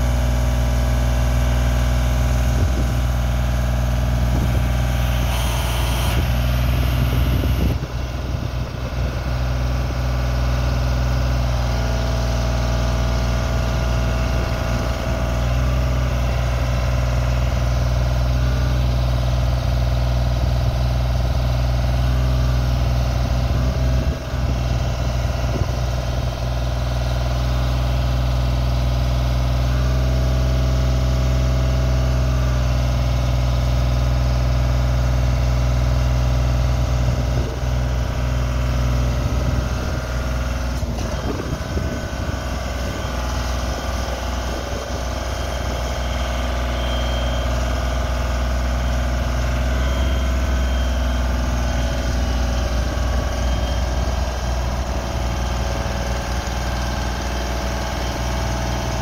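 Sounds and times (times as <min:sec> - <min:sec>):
boom lift engine running: 0:00.0 - 0:59.0.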